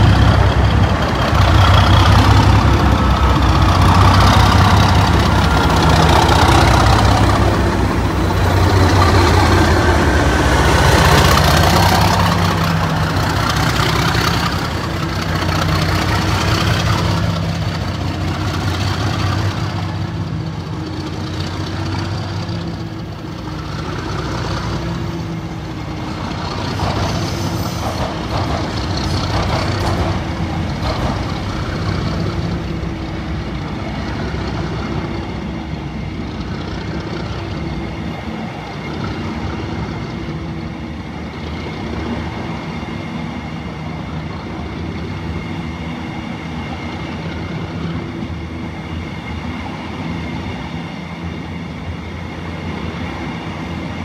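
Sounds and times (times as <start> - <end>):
coach wheels rumbling: 0.0 - 54.0
diesel engine running: 0.0 - 54.0
steady whine: 0.0 - 54.0.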